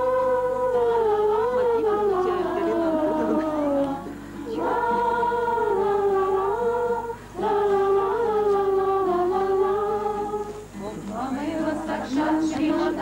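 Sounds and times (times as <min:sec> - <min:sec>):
acoustic guitar: 0:00.0 - 0:13.0
group singing: 0:00.0 - 0:13.0.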